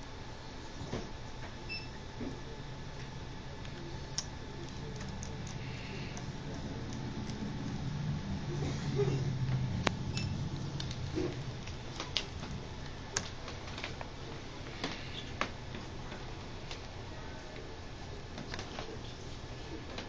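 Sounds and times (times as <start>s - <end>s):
low hum: 0.0s - 18.4s.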